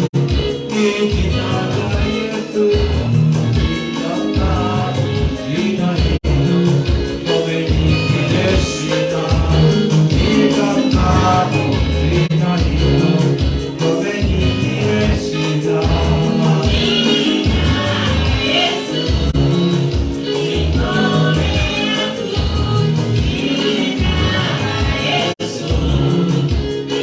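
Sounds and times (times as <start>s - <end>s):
band with steady bass beat: 0.0s - 27.0s
group of singers: 0.0s - 27.0s.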